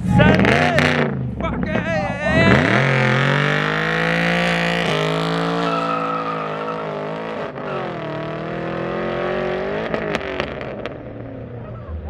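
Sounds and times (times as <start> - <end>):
vehicle engine at high revs: 0.0 - 12.0.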